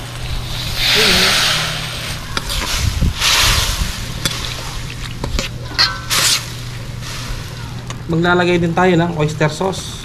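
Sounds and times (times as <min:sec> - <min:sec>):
low hum: 0:00.0 - 0:08.8
marinade sizzling in a pan: 0:00.0 - 0:09.8.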